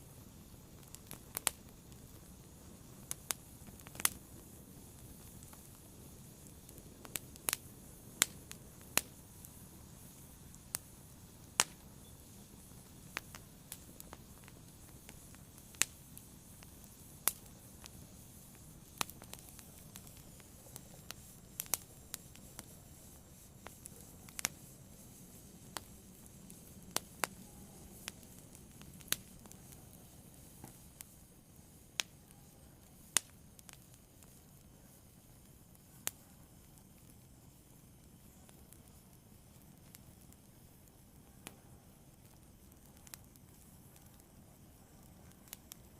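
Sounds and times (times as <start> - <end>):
faint low hiss: 0.0 - 45.9
fire crackling and popping: 0.0 - 45.9.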